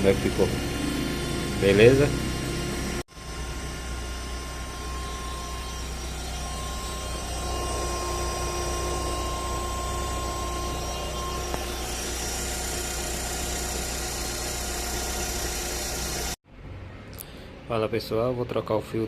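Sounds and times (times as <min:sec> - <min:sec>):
car engine idling: 0:00.0 - 0:16.4
shrill whine: 0:00.0 - 0:16.4
lower tone: 0:01.0 - 0:17.1.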